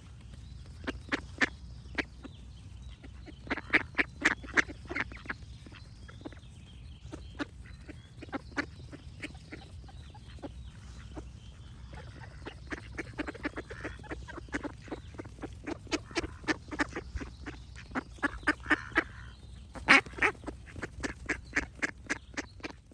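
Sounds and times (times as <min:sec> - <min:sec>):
faint birdsong: 0:00.0 - 0:22.9
ducks quacking: 0:00.7 - 0:22.9.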